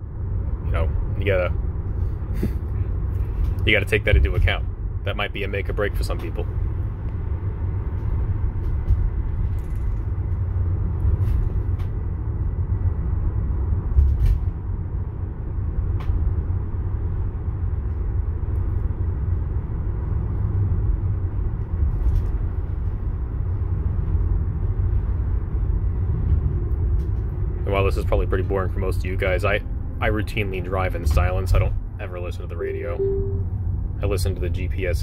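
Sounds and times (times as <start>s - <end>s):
road and tyre rumble: 0.0s - 35.0s.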